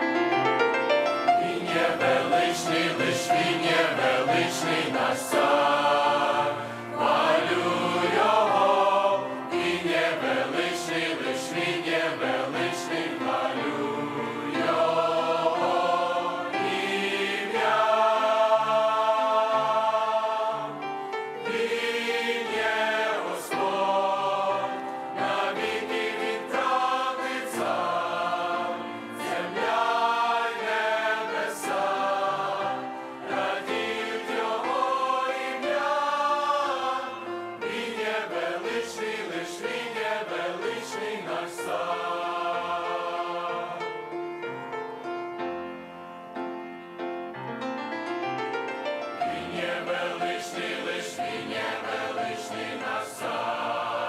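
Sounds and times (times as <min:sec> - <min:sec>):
mixed choir singing a hymn: 0:01.2 - 0:44.6, 0:49.2 - 0:54.0.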